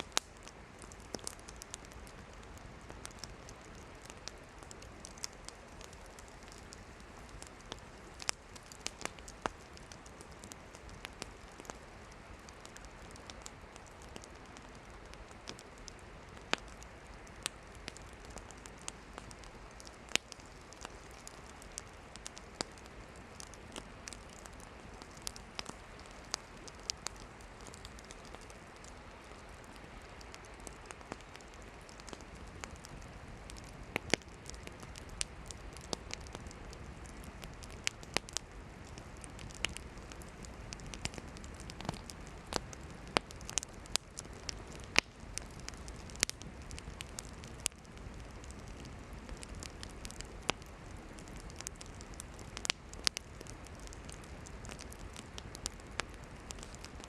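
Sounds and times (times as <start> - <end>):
campfire crackling and popping: 0.0 - 57.0
flames hissing: 0.0 - 57.0.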